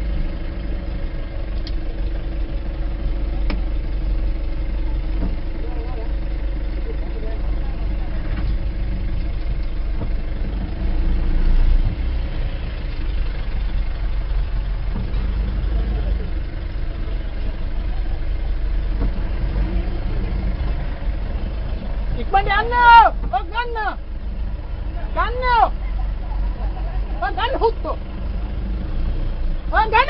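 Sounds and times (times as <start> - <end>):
vehicle engine on dirt track: 0.0 - 30.0.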